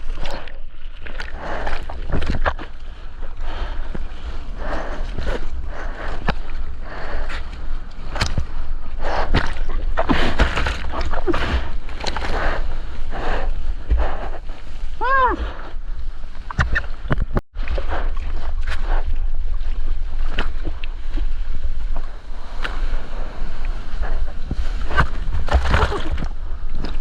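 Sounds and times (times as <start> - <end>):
sea water sloshing and splashing: 0.0 - 15.0, 15.8 - 27.0
wind rumbling on microphone: 0.0 - 27.0.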